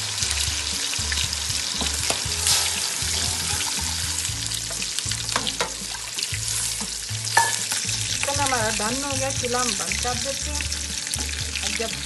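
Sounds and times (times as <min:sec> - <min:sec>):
gravy sizzling in a pan: 0:00.0 - 0:12.0.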